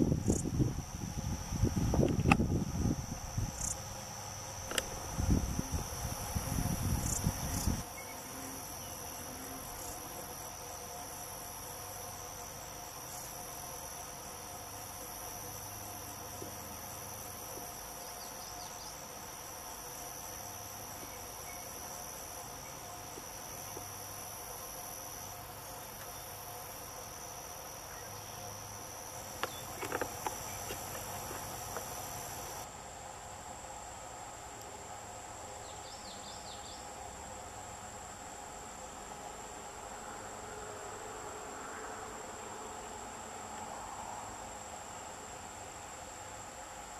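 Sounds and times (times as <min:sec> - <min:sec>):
insects trilling chorus: 0:00.0 - 0:46.9.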